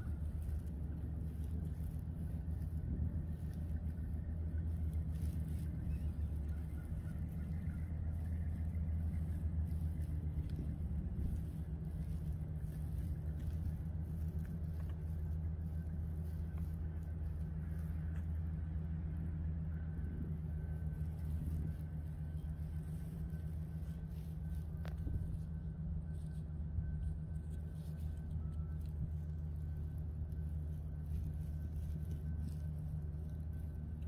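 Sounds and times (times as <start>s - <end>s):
low city rumble: 0.0s - 34.0s.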